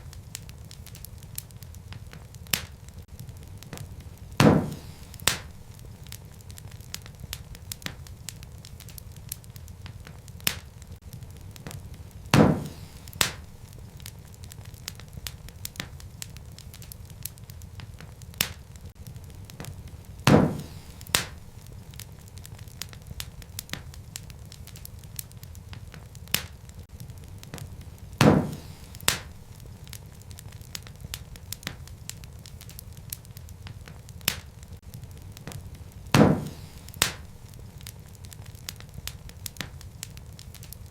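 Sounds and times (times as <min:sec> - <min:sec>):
fire low rumble: 0:00.0 - 0:40.9
sharp pops from fire: 0:00.0 - 0:40.9
wood fire crackling: 0:00.0 - 0:40.9.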